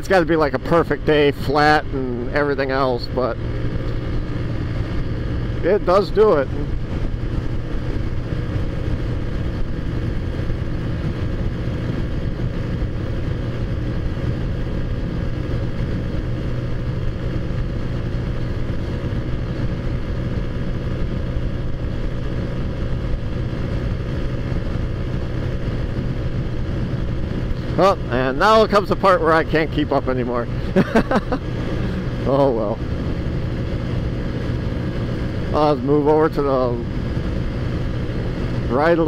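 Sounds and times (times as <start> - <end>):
scooter engine running: 0.0 - 39.0.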